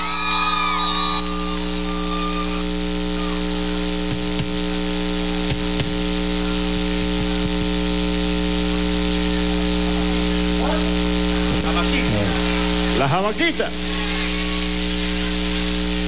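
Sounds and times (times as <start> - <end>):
mains hum: 0.0 - 16.0.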